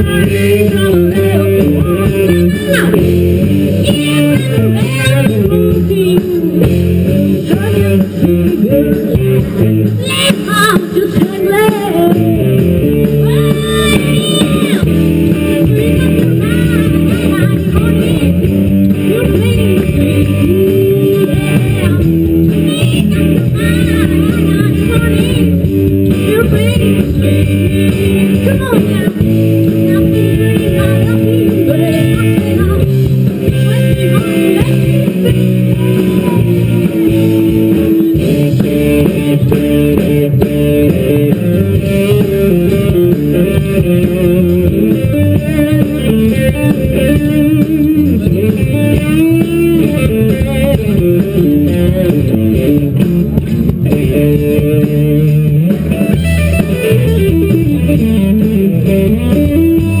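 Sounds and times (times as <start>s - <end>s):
bluesy electric guitar music: 0.0s - 60.0s.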